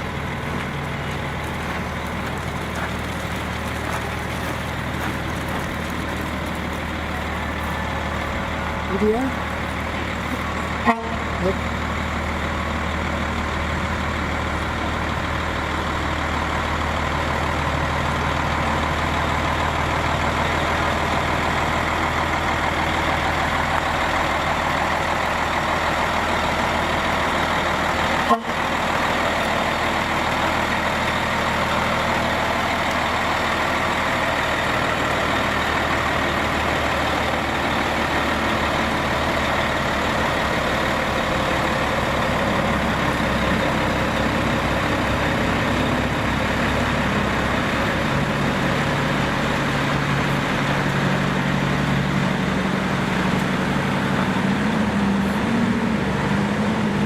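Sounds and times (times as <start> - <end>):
heavy trucks engine and tyre noise: 0.0 - 57.0.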